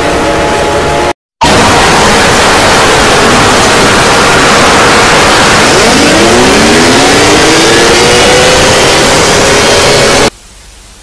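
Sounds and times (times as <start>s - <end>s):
static hiss: 1.5s - 11.0s.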